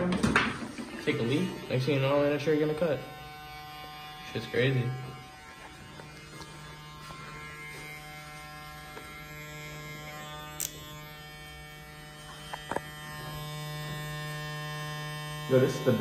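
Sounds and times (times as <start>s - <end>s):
hair clipper buzzing: 0.0s - 16.0s.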